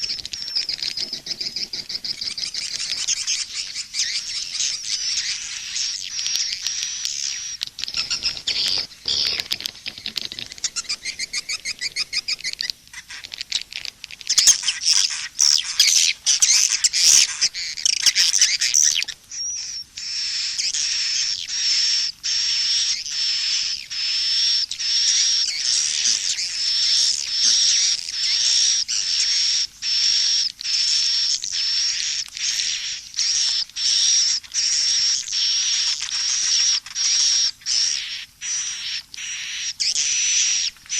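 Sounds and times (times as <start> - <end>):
high-pitched bird twittering chirps: 0.0 - 13.7, 14.3 - 40.9.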